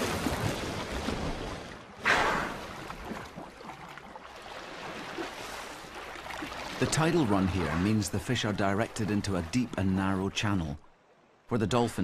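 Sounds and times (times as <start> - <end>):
water sloshing: 0.0 - 11.3.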